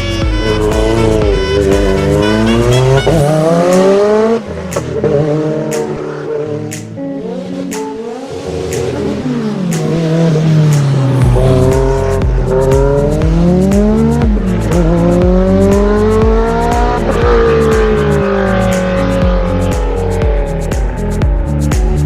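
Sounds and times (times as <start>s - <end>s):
car engine revving: 0.0s - 21.6s
electronic music with bass beat: 0.0s - 22.0s.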